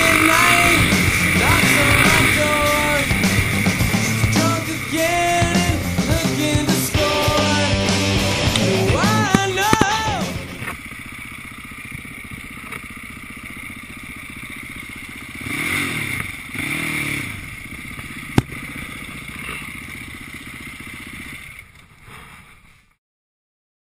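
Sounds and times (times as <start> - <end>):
quad engine running at low revs: 0.0 - 23.0.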